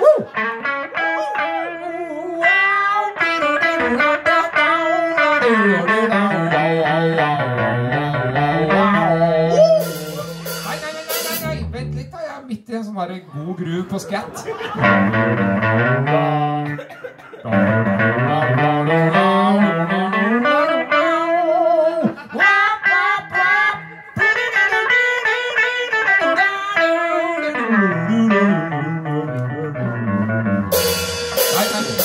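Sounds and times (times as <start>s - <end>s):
electric guitar riff: 0.0s - 12.2s, 14.7s - 32.0s.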